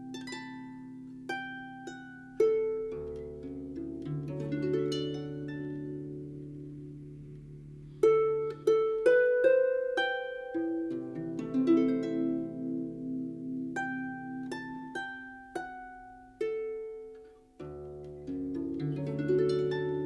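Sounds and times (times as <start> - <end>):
plucked harp music: 0.0 - 20.0.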